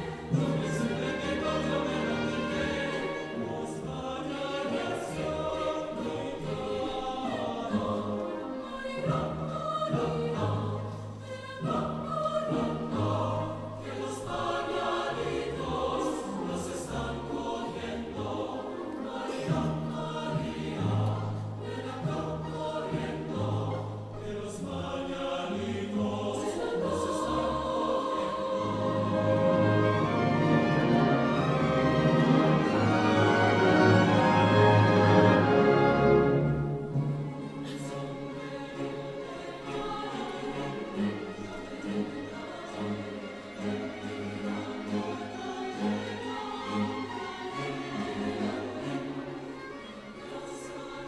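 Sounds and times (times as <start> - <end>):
choir singing in parts: 0.0 - 51.0.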